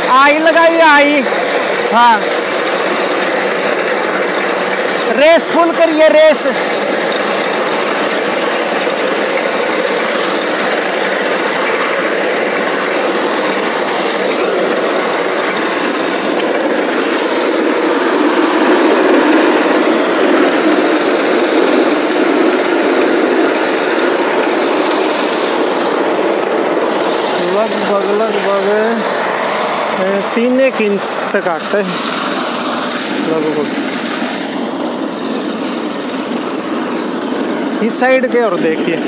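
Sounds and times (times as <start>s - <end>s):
reaper petrol engine running: 0.0s - 39.0s.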